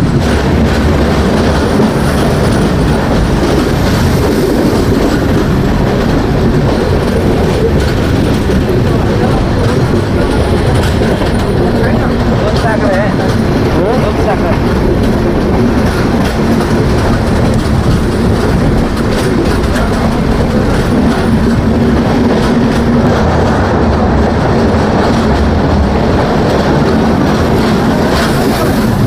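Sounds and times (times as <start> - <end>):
clickety-clack of rails: 0.0 - 29.0
train wheels rumbling on rails: 0.0 - 29.0.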